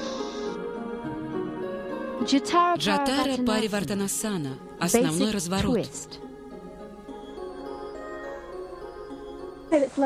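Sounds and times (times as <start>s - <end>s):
soft calm background music: 0.0s - 10.0s.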